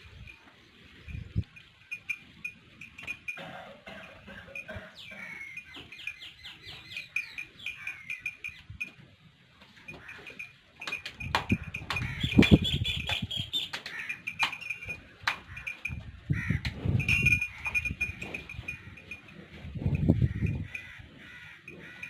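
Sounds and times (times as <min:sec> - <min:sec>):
small birds chirping: 0:00.0 - 0:09.0, 0:09.6 - 0:19.3.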